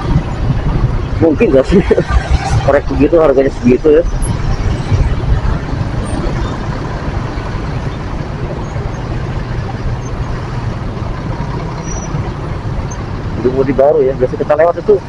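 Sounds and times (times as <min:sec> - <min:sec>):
bus engine: 0:00.0 - 0:15.0
motorcycle engines: 0:00.0 - 0:15.0
truck engine: 0:00.0 - 0:15.0.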